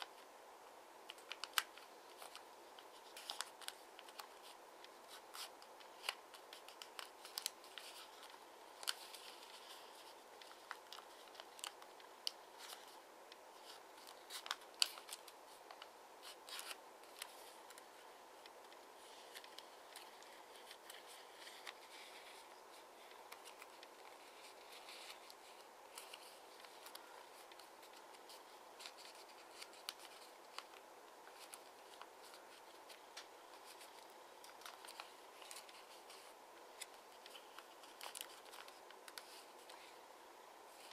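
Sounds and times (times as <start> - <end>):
faint steady hiss: 0.0 - 40.9
paper crinkling and rustling: 1.0 - 40.0, 40.7 - 40.9.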